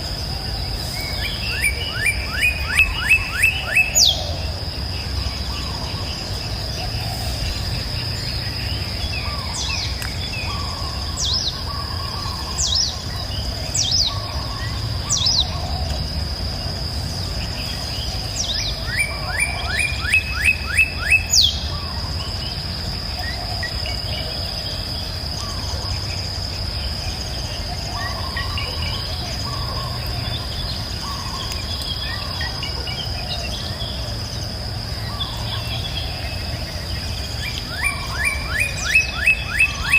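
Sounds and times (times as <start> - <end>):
birds singing: 0.0 - 39.9
high insect drone: 0.0 - 39.9.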